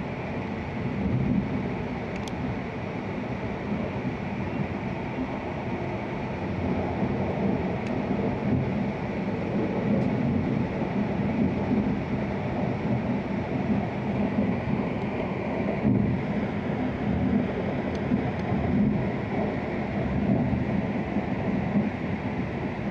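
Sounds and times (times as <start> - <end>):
train cabin low rumble: 0.0 - 22.9.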